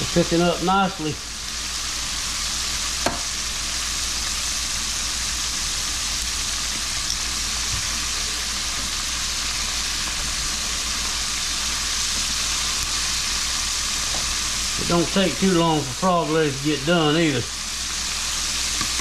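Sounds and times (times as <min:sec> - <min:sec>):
deep-frying sizzle: 0:00.0 - 0:19.0.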